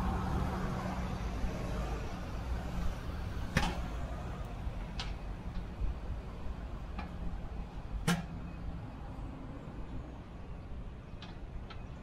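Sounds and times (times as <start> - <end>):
vehicle engine humming: 0.0 - 9.8.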